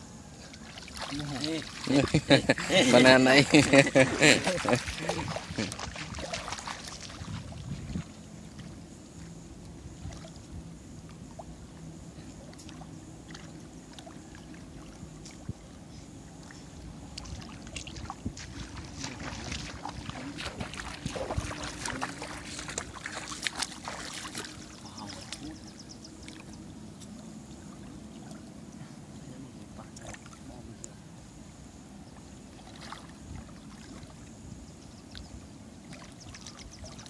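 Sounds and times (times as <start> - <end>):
water sloshing and splashing: 0.4 - 28.8, 29.6 - 30.6, 32.2 - 34.4, 35.1 - 37.0.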